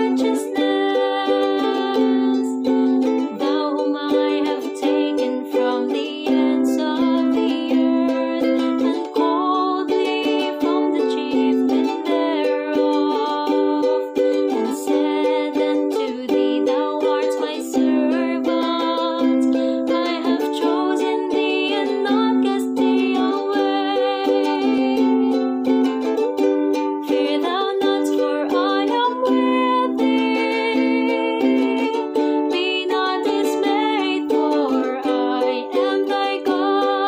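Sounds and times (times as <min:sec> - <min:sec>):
woman singing: 0:00.0 - 0:26.0, 0:27.0 - 0:37.0
ukulele strumming: 0:00.0 - 0:37.0.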